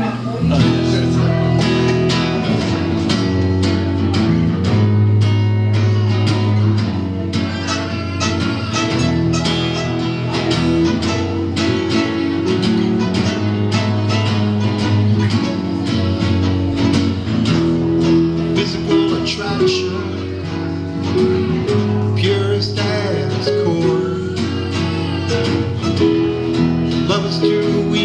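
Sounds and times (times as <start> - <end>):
strummed guitar: 0.0 - 28.0
sustained bass notes: 0.0 - 28.0.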